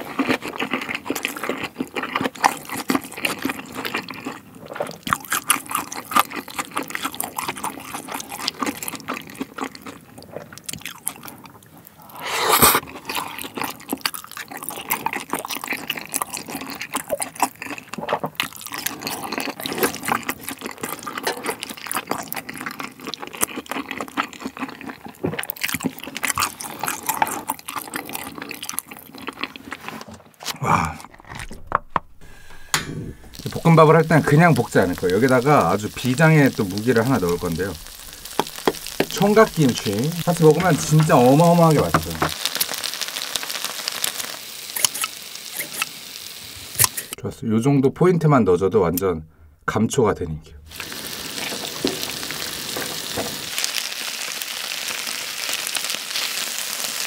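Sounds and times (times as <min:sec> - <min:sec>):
wet chewing and mouth smacking: 0:00.0 - 0:46.0, 0:46.8 - 0:47.2.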